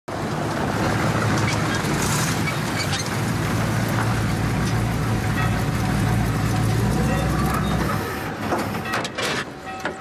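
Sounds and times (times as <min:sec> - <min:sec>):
car engine running: 0:00.2 - 0:08.8.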